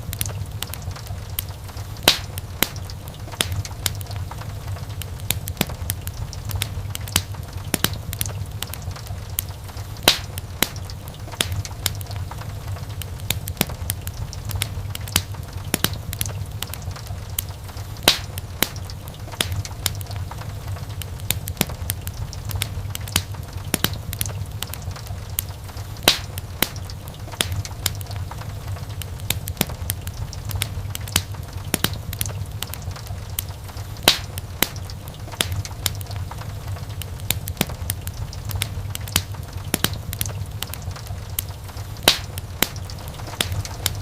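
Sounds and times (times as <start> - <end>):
low rumble of flames: 0.0 - 44.0
wood fire popping and snapping: 0.0 - 44.0.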